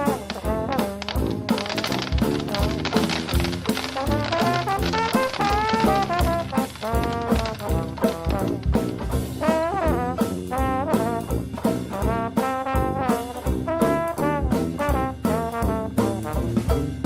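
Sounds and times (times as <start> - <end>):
jazzy brass melody: 0.0 - 17.0
steady drum beat: 0.0 - 17.0.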